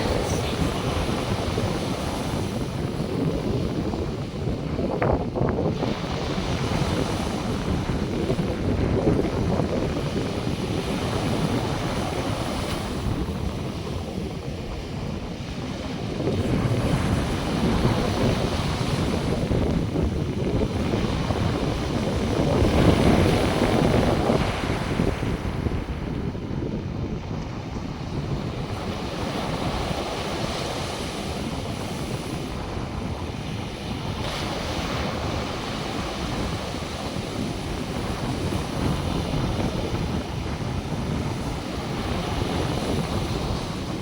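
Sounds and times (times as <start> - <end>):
surf washing on beach: 0.0 - 44.0
wind buffeting microphone: 0.0 - 44.0.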